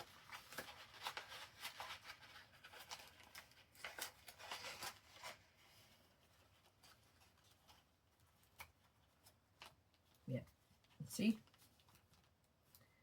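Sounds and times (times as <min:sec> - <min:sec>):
paper rustling: 0:00.0 - 0:12.8.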